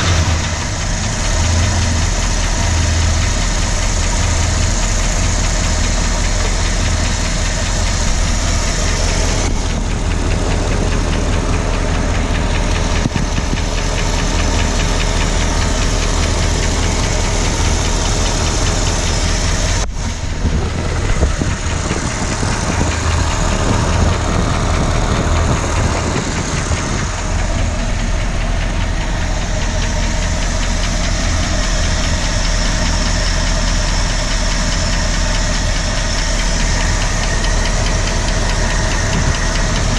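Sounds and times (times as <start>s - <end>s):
car engine idling: 0.0s - 39.9s
fast regular engine ticking: 0.0s - 39.9s.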